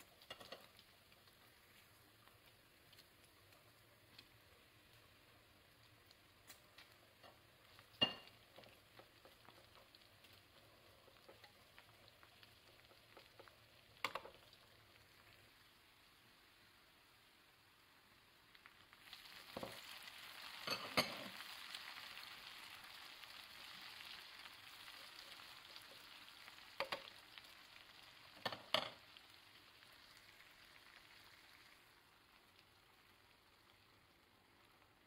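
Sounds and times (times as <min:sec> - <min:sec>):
bacon and onion sizzling: 0:00.0 - 0:35.0.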